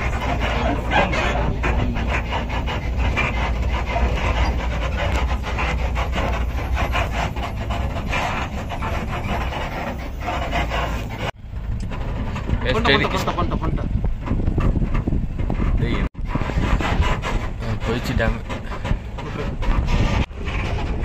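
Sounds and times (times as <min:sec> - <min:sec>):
jeep rumbling on rough track: 0:00.0 - 0:21.0
wind buffeting microphone: 0:00.0 - 0:21.0.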